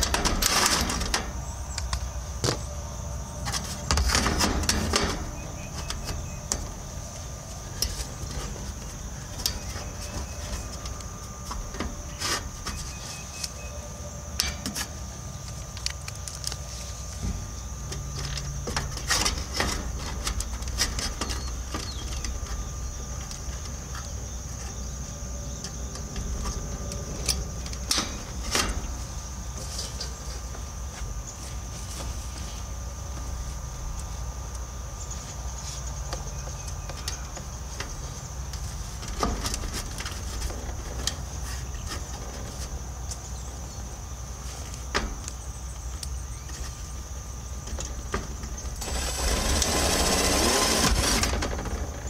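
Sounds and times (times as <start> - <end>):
steady high hiss: 0.0 - 52.0.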